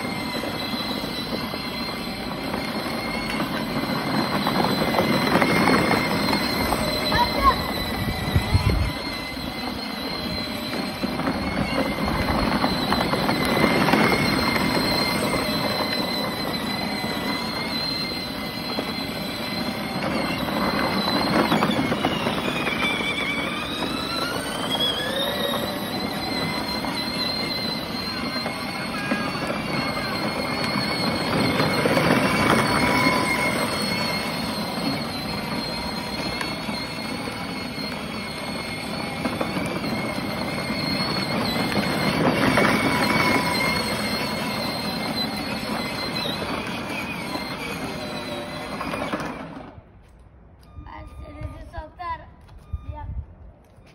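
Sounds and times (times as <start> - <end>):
electric motors whining: 0.0 - 53.0
plastic wheels rumbling on asphalt: 0.0 - 53.9.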